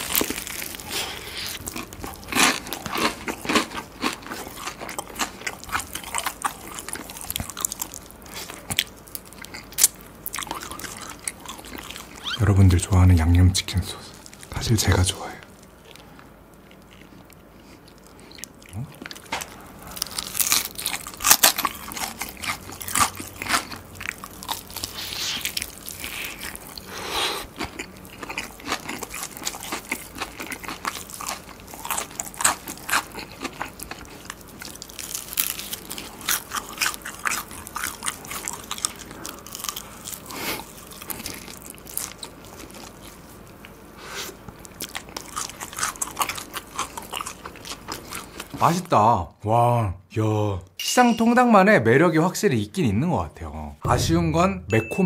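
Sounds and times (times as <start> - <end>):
crunching fried chicken: 0.0 - 49.0.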